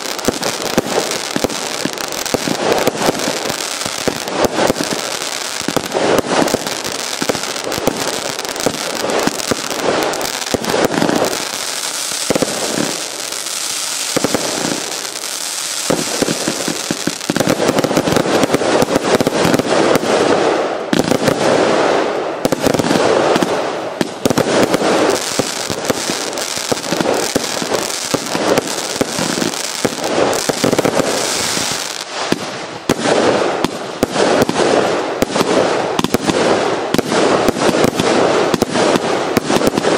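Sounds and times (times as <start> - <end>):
firework shots and crackling bursts: 0.0 - 39.9.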